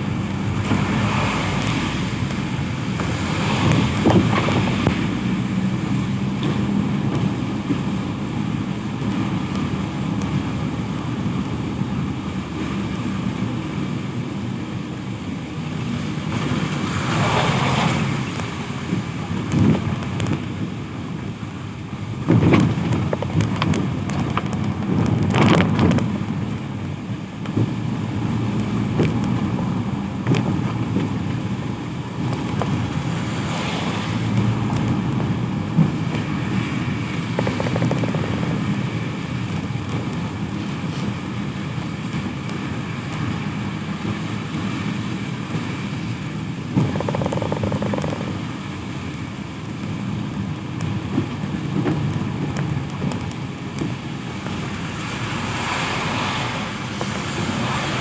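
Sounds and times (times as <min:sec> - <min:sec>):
rain: 0:00.0 - 0:58.0
vehicles passing on wet road: 0:00.0 - 0:58.0.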